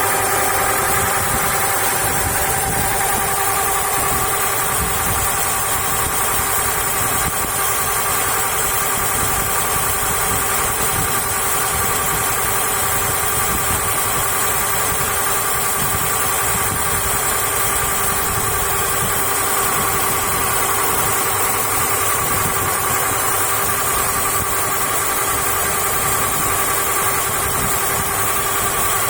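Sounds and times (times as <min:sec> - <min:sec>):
boat engine running: 0:00.0 - 0:29.0
gearbox mechanical whine: 0:00.0 - 0:29.0.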